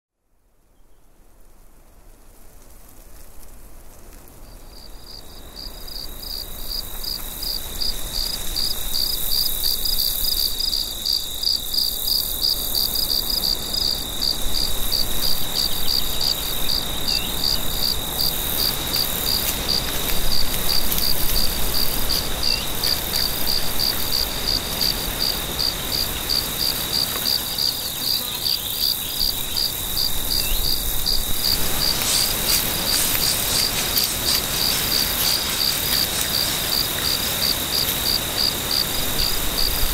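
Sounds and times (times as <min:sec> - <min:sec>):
crickets chirping: 0:04.3 - 0:39.9.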